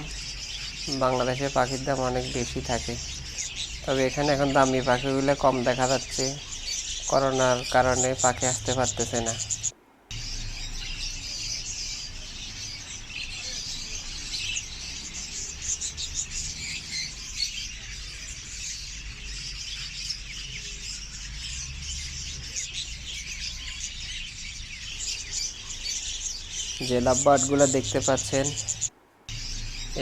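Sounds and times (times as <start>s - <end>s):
caged birds chirping and chattering: 0.0s - 30.0s.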